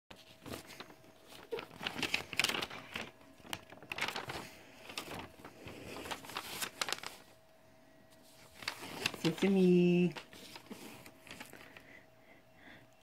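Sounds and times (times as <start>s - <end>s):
rustling and crinkling: 0.1s - 12.0s
faint steady hum: 0.1s - 13.0s.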